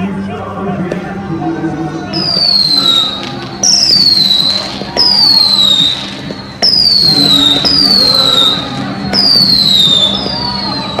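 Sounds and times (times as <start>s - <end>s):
whistling fireworks: 2.1s - 11.0s.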